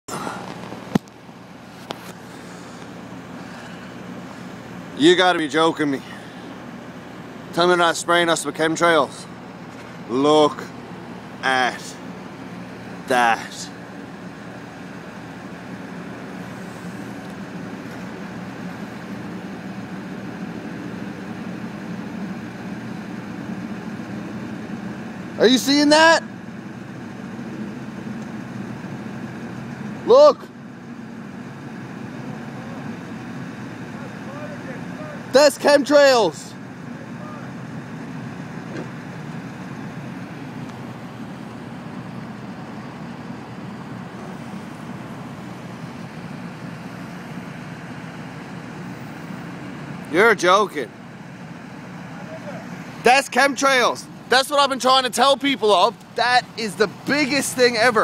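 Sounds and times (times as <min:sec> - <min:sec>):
low mechanical hum: 0:00.1 - 0:58.0
low vehicle rumble: 0:00.1 - 0:58.0.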